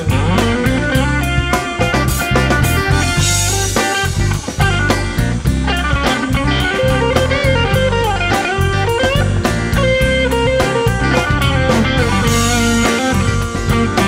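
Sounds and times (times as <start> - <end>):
electric blues band playing: 0.0 - 14.0
lead electric guitar bending notes: 0.0 - 14.0.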